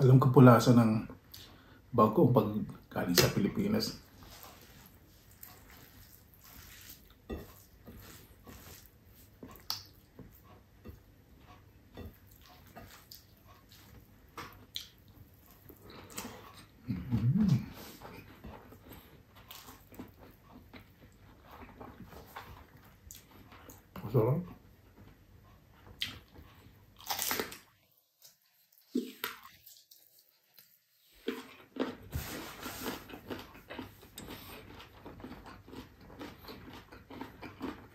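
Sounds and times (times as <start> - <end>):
man chewing food: 1.1 - 1.9, 3.7 - 37.9.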